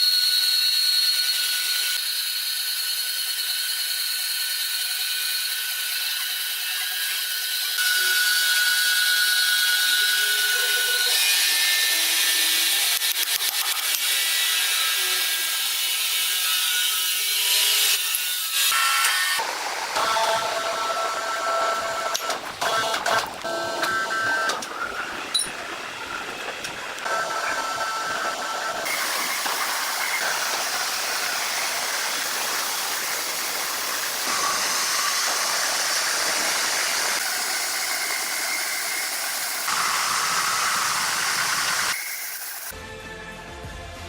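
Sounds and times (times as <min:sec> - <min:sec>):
power saw cutting wood: 0:00.0 - 0:42.8.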